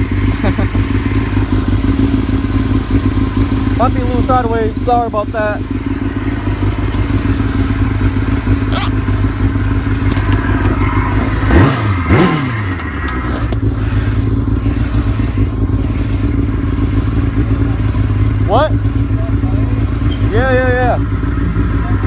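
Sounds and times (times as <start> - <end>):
small motorbike engine running: 0.0 - 22.0.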